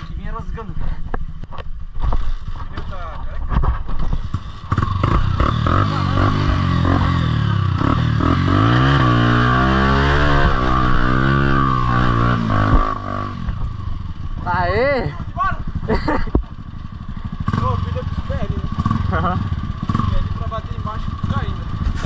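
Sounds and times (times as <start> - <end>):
dirt bike engine accelerating: 1.5 - 22.0.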